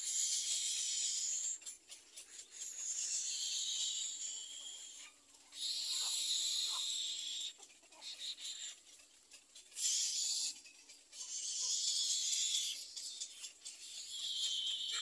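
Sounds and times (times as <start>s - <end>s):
chicks giving raspy begging calls: 0.0s - 15.0s.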